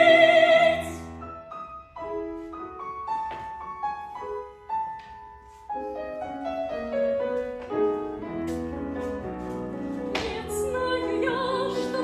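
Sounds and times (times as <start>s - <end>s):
piano melody over chords: 0.0s - 12.0s.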